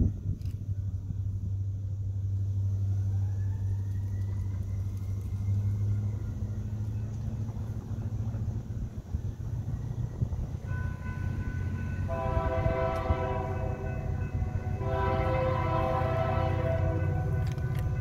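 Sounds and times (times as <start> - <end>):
locomotive engine rumbling: 0.0 - 18.0.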